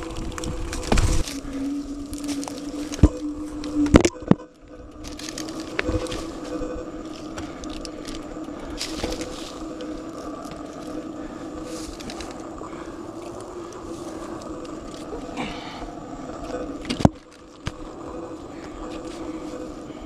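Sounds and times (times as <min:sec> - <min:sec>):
mountain bike rolling on dirt: 0:00.0 - 0:20.0.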